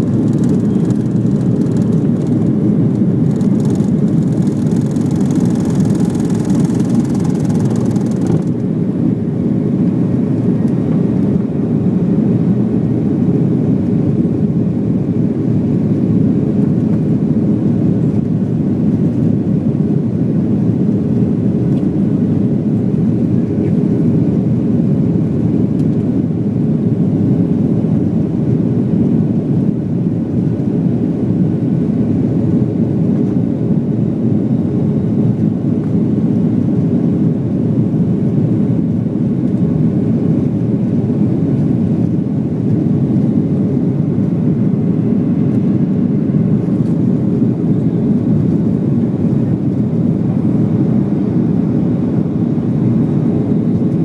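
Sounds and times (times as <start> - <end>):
jet engines rumbling in cabin: 0.0 - 54.0.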